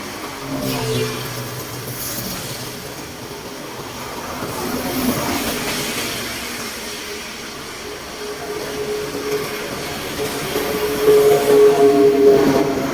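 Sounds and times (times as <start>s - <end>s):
stormwater rushing into a drain: 0.0s - 11.2s.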